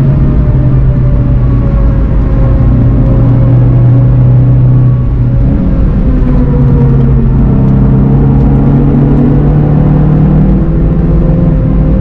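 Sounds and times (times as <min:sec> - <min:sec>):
car engine on downshift: 0:00.0 - 0:12.0
tyre and road rumble: 0:00.0 - 0:12.0.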